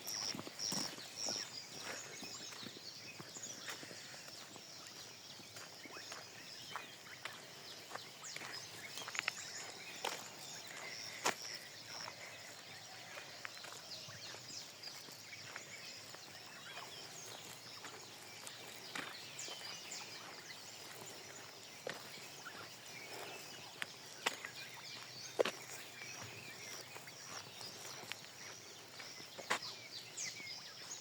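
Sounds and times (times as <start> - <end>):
birds chirping faintly: 0.0 - 31.0
footsteps on outdoor path: 0.0 - 31.0.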